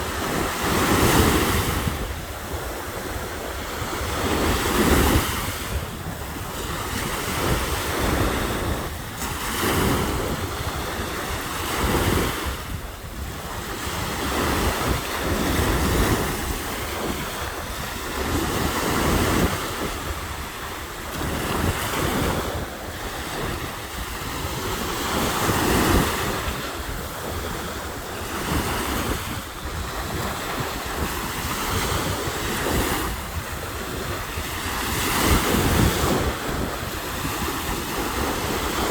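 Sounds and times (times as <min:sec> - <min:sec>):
waves breaking on a beach: 0:00.0 - 0:38.9
wind buffeting microphone: 0:00.0 - 0:38.9.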